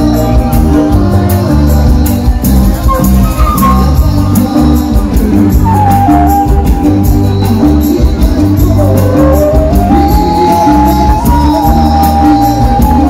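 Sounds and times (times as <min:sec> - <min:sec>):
live band music: 0:00.0 - 0:13.0
man singing: 0:00.0 - 0:13.0.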